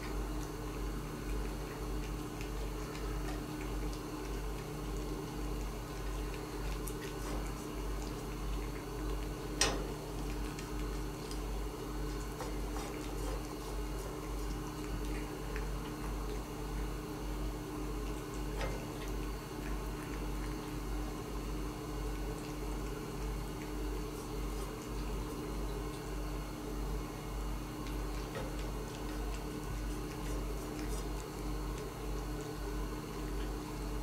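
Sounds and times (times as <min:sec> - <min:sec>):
cat chewing and licking: 0:00.0 - 0:34.0
steady low hum: 0:00.0 - 0:34.0.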